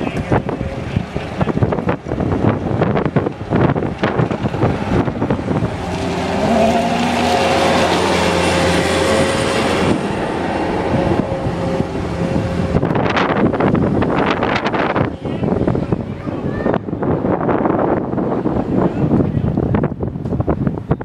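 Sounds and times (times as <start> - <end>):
rough gusty noise: 0.0 - 21.0.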